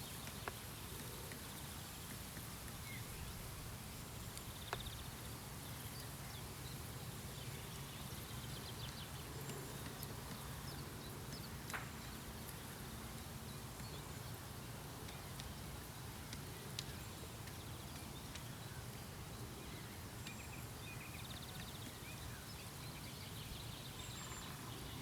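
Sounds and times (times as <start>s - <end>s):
low background noise: 0.0s - 25.0s.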